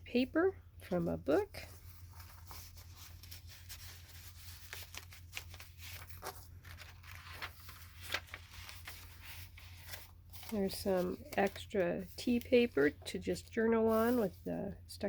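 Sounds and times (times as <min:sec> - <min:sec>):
paper rustling and crinkling: 0:00.8 - 0:14.5.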